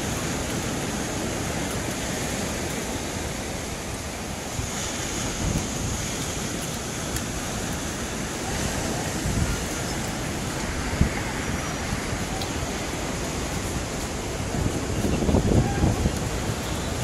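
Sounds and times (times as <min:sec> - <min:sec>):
ocean surf washing on beach: 0:00.0 - 0:17.0
wind on microphone: 0:00.0 - 0:17.0.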